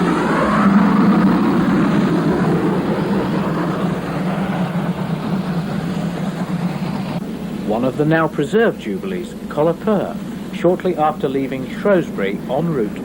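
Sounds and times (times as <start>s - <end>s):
steam locomotive pulling away: 0.0s - 13.0s.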